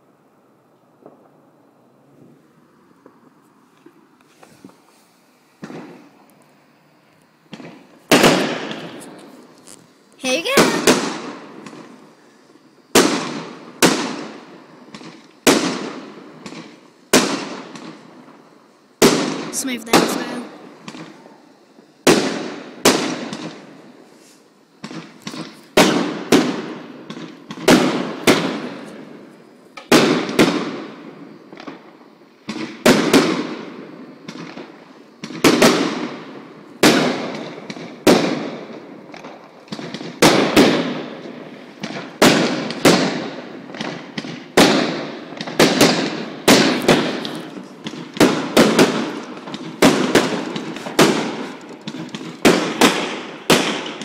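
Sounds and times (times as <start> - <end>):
firework bangs echoing: 1.0 - 6.3, 7.4 - 9.6, 10.2 - 24.1, 24.7 - 54.0.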